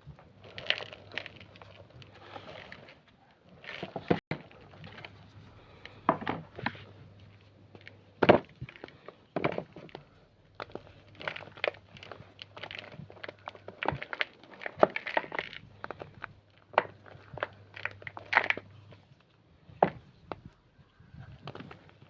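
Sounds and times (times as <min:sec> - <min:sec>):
chalk crunching: 0:00.3 - 0:19.0.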